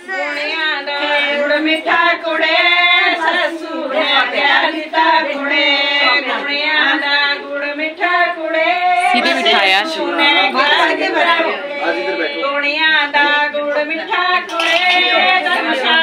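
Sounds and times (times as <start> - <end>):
women singing without instruments: 0.0 - 16.0.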